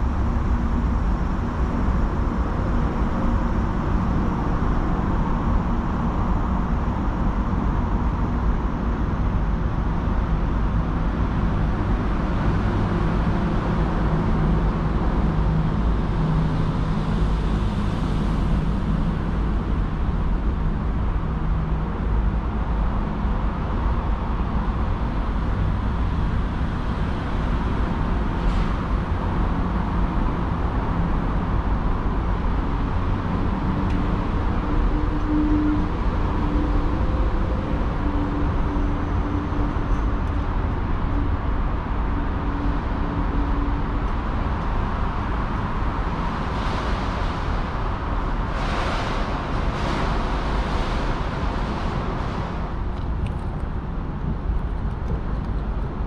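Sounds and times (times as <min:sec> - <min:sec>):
city road traffic rumble: 0:00.0 - 0:56.0.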